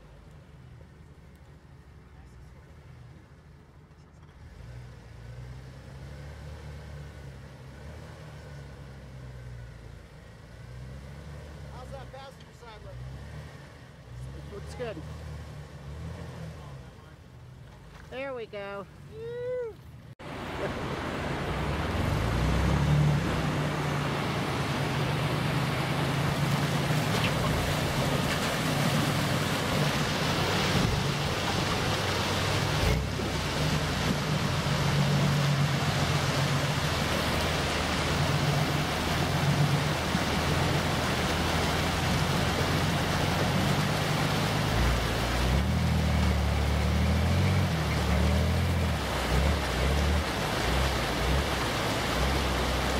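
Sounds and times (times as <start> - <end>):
creek water rushing: 4.4 - 52.9.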